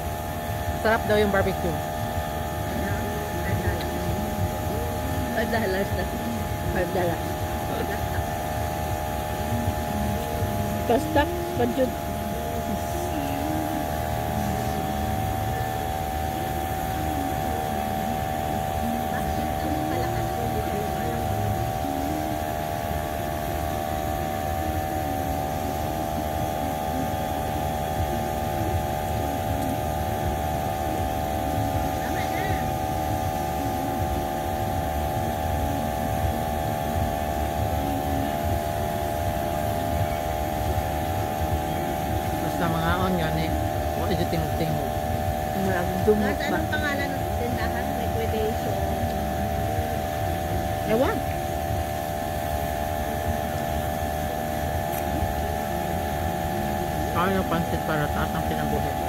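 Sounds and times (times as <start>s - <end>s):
steady machine hum: 0.0s - 59.0s.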